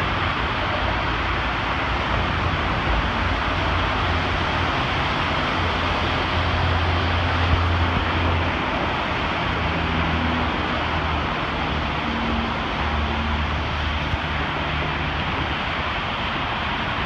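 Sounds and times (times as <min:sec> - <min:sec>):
train rumbling across bridge: 0:00.0 - 0:17.0.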